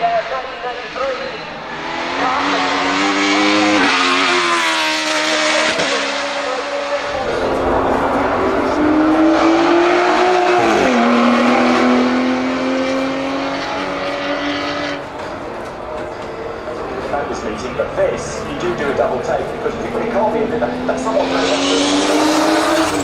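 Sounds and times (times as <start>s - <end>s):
racing car engine running hard: 1.6s - 23.0s.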